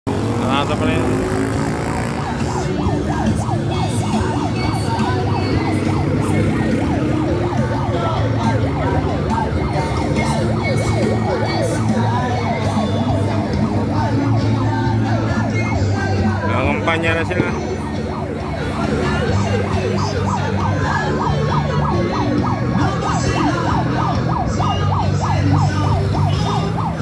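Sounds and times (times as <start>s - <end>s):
sirens wailing: 0.0s - 27.0s
motorcycle engines running: 0.1s - 27.0s.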